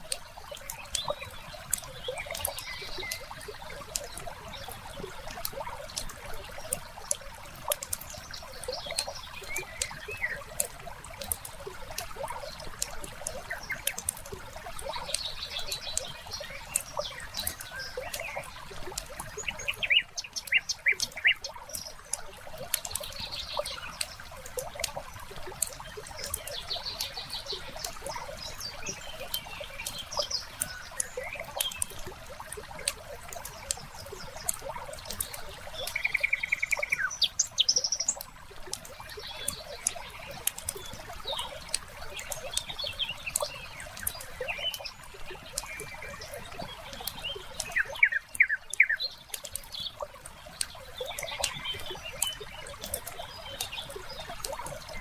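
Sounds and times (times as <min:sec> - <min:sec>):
birds chirping: 0:00.0 - 0:55.0
water trickling: 0:00.0 - 0:55.0.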